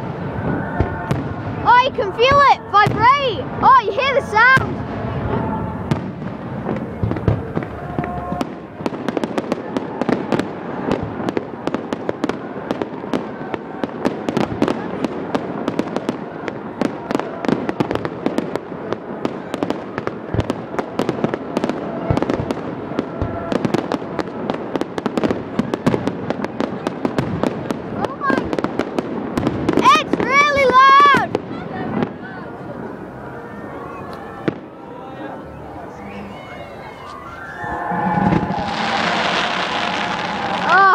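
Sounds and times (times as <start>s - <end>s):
fireworks crackling pops: 0.0s - 32.2s, 36.9s - 40.9s.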